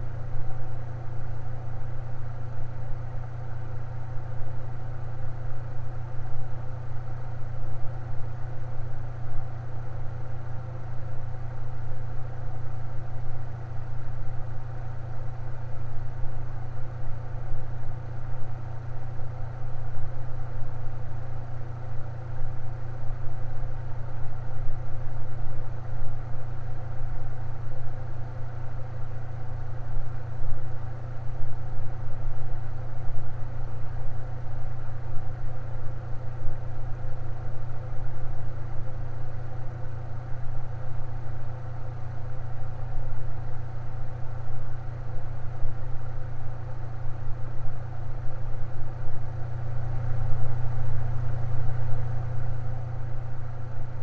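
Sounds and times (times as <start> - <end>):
electric fan motor hum: 0.0 - 54.0.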